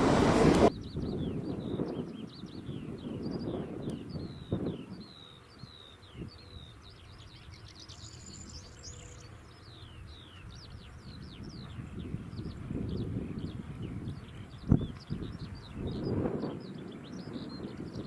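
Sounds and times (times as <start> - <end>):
songbirds chirping: 0.0 - 18.0
wind rumble on microphone: 0.0 - 18.0.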